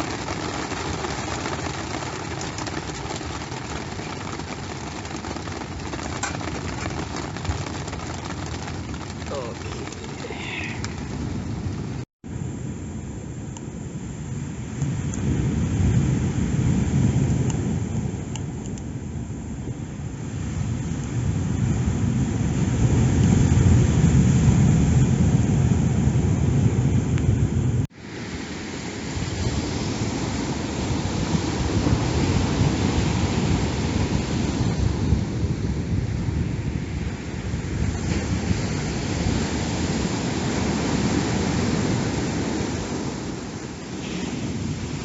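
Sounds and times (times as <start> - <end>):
heavy sea waves: 0.0 - 12.1, 14.0 - 45.0
wind buffeting microphone: 0.0 - 45.0.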